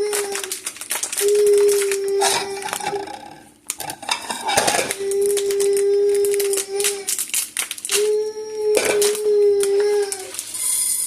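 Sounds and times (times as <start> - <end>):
kitchen things clattering: 0.0 - 7.1, 8.7 - 11.0.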